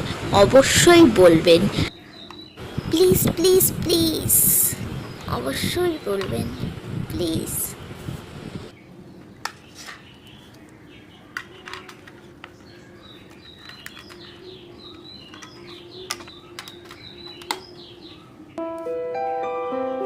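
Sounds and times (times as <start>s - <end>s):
small birds chirping: 1.8s - 18.6s.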